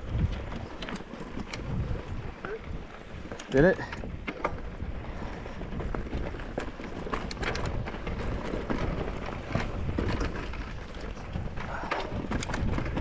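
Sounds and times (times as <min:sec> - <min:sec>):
bike rattling over bumps: 0:00.0 - 0:13.0
tyres crunching on loose ground: 0:00.0 - 0:13.0.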